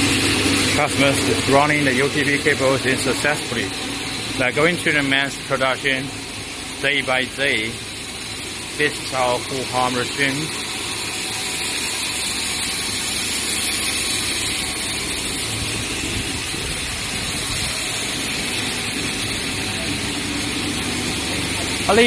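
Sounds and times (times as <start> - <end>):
extrusion machinery running: 0.0 - 22.0.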